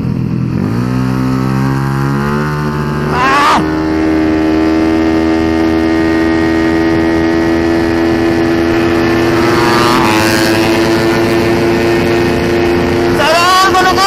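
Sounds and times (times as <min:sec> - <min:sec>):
passing motorcycle engine: 0:00.0 - 0:14.0
scooter engine running: 0:00.0 - 0:14.0.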